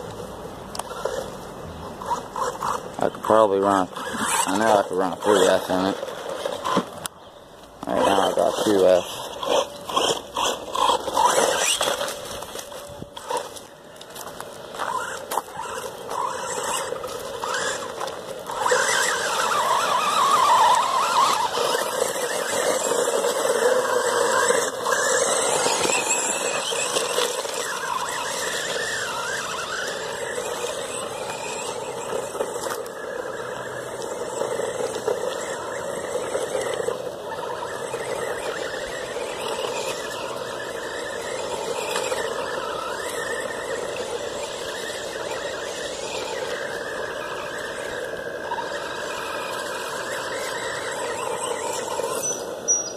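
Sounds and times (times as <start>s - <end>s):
tyres on wet gravel: 0.0s - 52.9s
toy truck motor whining: 0.7s - 52.9s.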